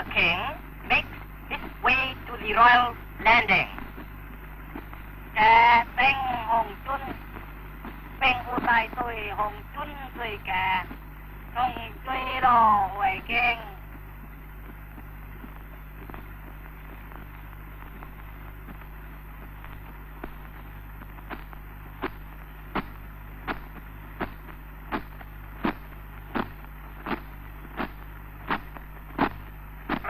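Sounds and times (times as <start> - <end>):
film soundtrack hiss and hum: 0.0 - 30.0.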